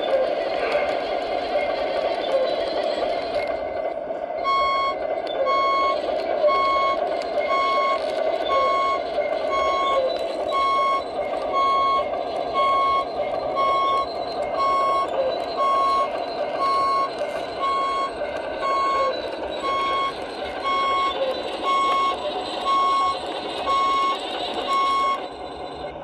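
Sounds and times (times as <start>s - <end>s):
reversing alarm beeps: 0.0s - 26.0s.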